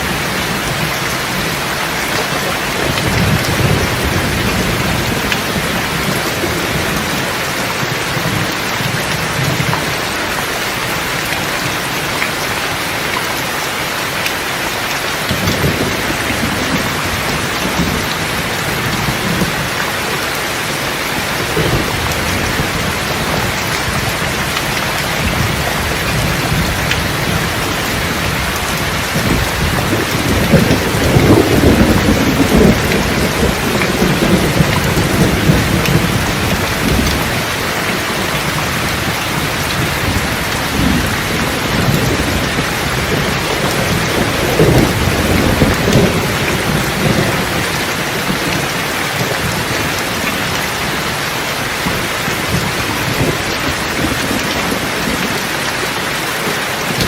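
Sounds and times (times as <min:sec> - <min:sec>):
thunder rumbling: 0:00.0 - 0:12.2, 0:15.1 - 0:57.0
steady rain: 0:00.0 - 0:57.0.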